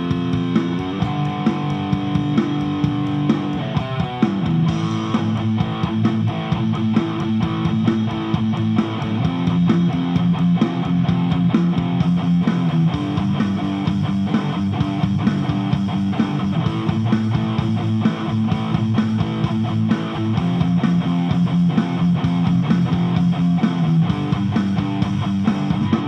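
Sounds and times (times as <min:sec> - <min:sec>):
electric guitar picking: 0:00.0 - 0:26.0.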